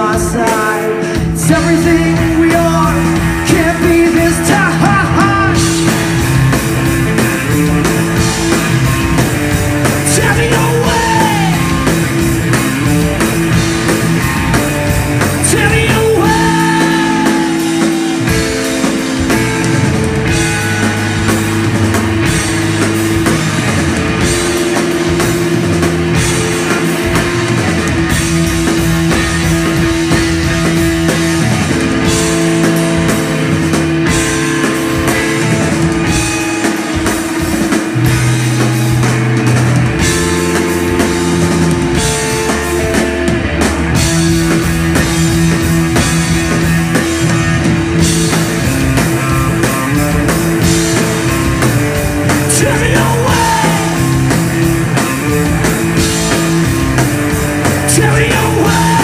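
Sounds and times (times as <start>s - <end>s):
drum kit: 0.0s - 59.0s
electric bass: 0.0s - 59.0s
electric guitar: 0.0s - 59.0s.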